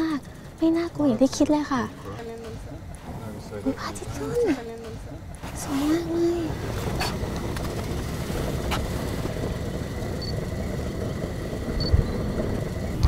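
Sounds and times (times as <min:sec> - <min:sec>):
low rumbling noise: 0:00.0 - 0:13.0.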